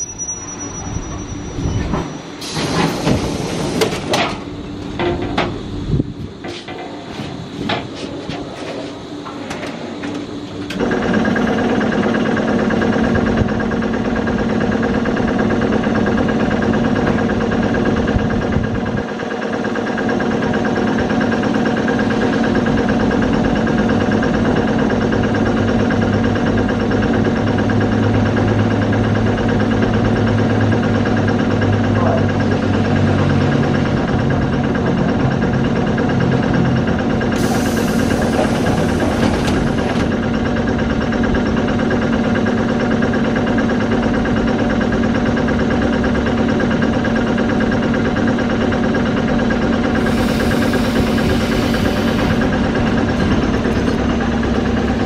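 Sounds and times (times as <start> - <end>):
train air compressor humming: 0.0 - 55.0.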